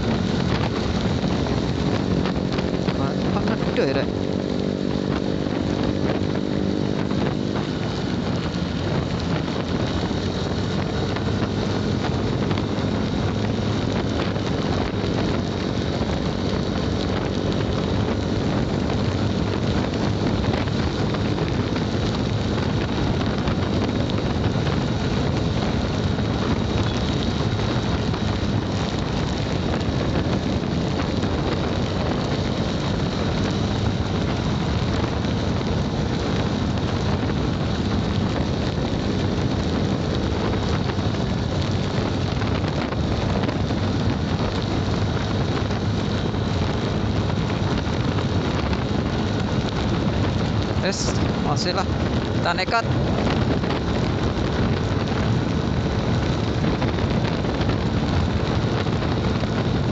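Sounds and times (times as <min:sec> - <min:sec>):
motorcycle engine: 0:00.0 - 0:59.9
road noise: 0:00.0 - 0:59.9
wind rushing over microphone: 0:00.0 - 0:59.9.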